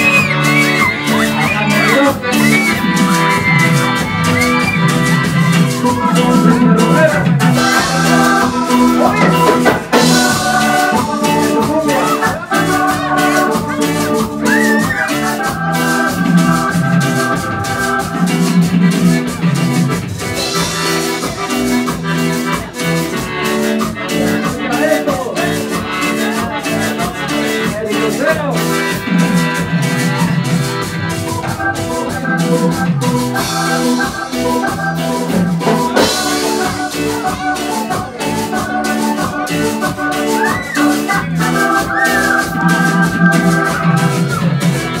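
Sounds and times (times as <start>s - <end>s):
loud cumbia dance music: 0.0s - 45.0s.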